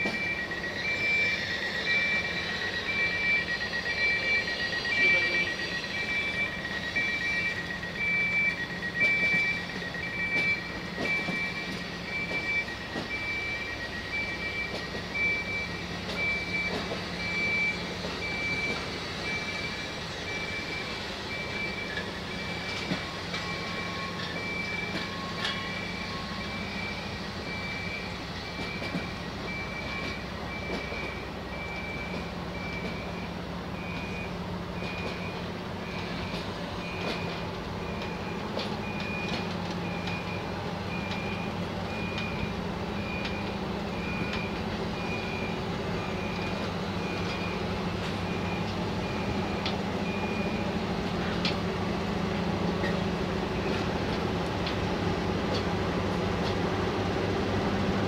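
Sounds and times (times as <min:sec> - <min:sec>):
electronic warning beep: 0:00.0 - 0:50.8, 0:52.8 - 0:54.0
train carriages rumbling: 0:00.0 - 0:58.0.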